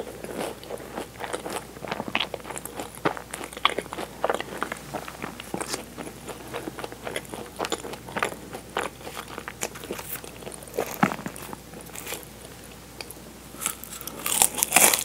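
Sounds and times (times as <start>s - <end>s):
chewing crunchy pastry: 0.0s - 12.8s, 13.6s - 15.0s.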